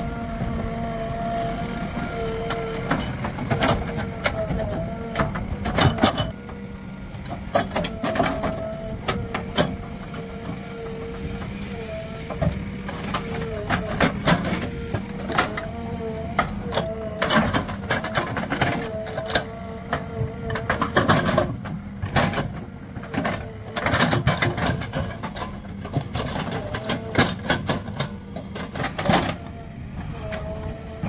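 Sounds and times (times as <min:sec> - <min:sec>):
diesel engine under load: 0:00.0 - 0:31.0
engine whine: 0:00.0 - 0:31.0.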